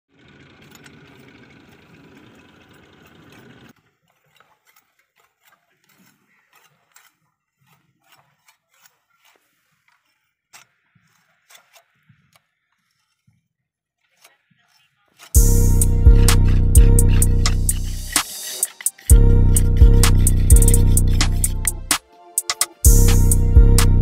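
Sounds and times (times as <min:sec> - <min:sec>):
chaff cutter whirring clatter: 0:00.1 - 0:13.3, 0:15.2 - 0:23.5.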